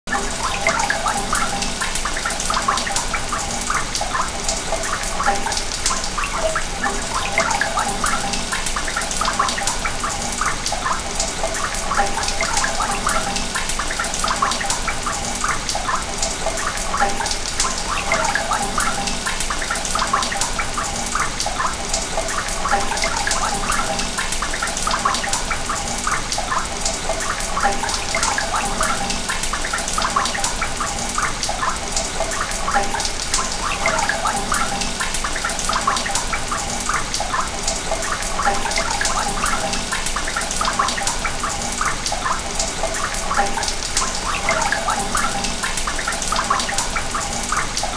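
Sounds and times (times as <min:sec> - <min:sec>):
water gurgling and splashing: 0:00.1 - 0:47.9
water rushing through pipes: 0:00.1 - 0:47.9.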